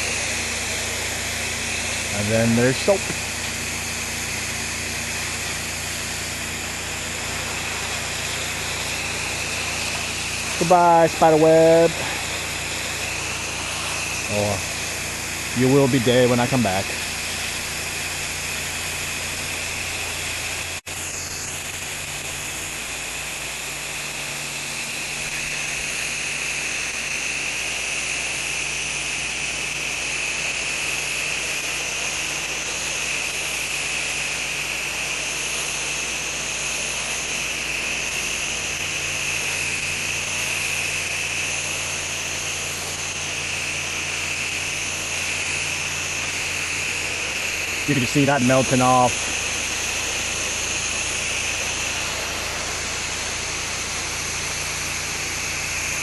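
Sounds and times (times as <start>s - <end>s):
hose nozzle spraying hiss: 0.0s - 56.0s
pump motor humming: 0.0s - 56.0s.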